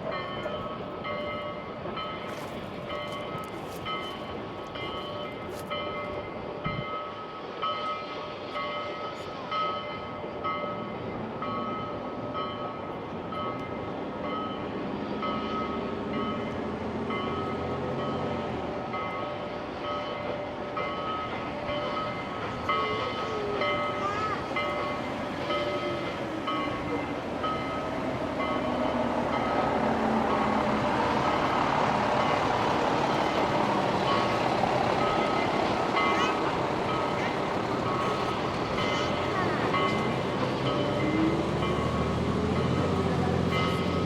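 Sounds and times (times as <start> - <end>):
steam locomotive running: 0.0 - 44.0.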